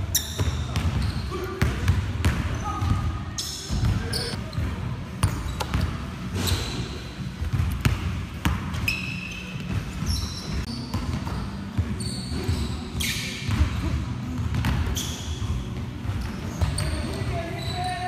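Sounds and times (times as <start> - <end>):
sneaker squeaks: 0.0 - 7.2, 7.8 - 18.0
basketballs bouncing on gym floor: 0.0 - 18.0.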